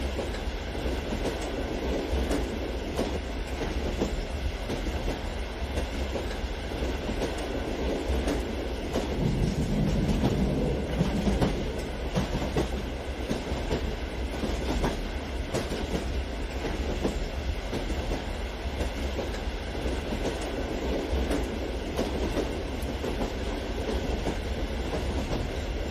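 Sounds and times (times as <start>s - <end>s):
model train rumbling: 0.0s - 25.9s.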